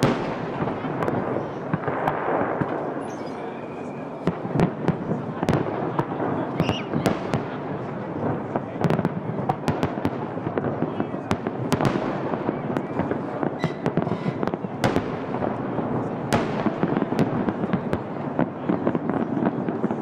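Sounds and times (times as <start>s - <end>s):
firework crackle: 0.0s - 20.0s.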